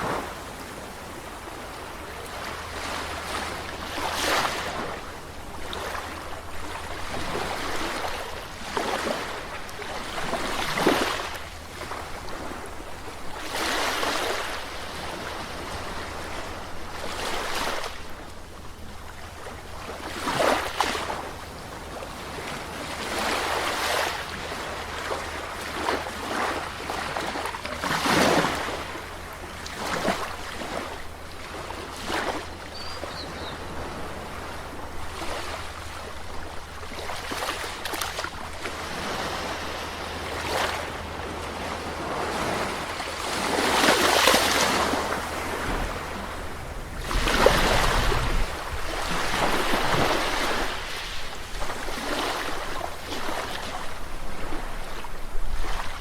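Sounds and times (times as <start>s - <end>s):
low rumble of surf: 0.0s - 56.0s
sea waves breaking on shore: 0.0s - 56.0s.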